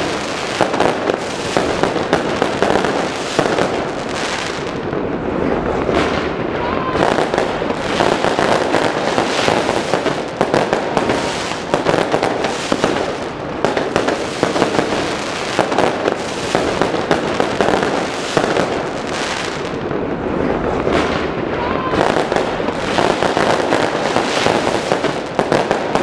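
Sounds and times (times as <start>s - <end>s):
fireworks crackling and popping: 0.0s - 26.0s.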